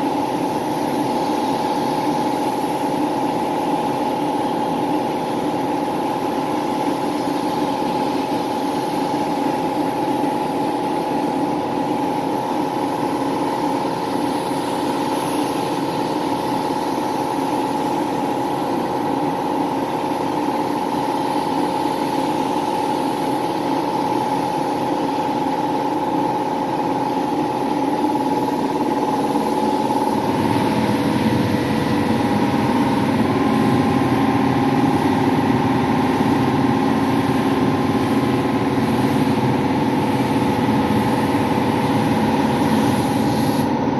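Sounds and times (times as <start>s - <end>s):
spray gun hissing: 0.0s - 11.3s, 13.0s - 43.7s
air compressor running: 0.0s - 43.9s.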